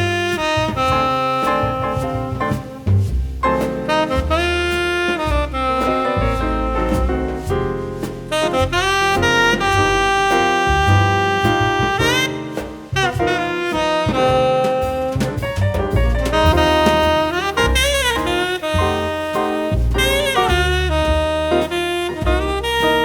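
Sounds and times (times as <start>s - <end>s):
bass: 0.0s - 23.0s
drums: 0.0s - 23.0s
saxophone melody: 0.0s - 23.0s.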